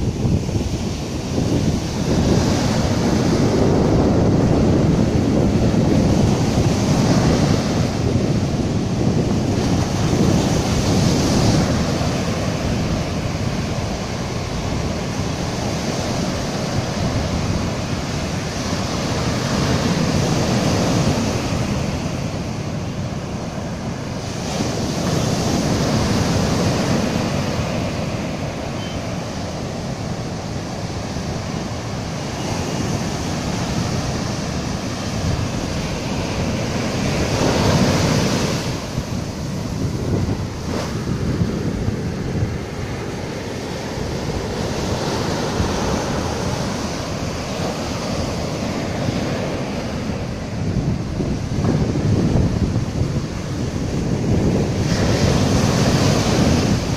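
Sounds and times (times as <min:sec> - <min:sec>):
surf washing over sand: 0:00.0 - 0:56.9
wind buffeting microphone: 0:00.0 - 0:56.9.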